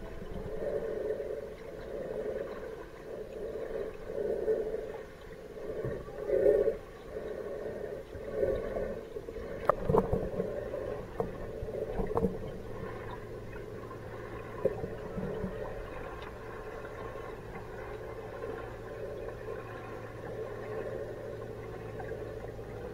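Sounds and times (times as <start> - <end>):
muffled underwater water noise: 0.0 - 22.9
steady low hum: 0.0 - 22.9.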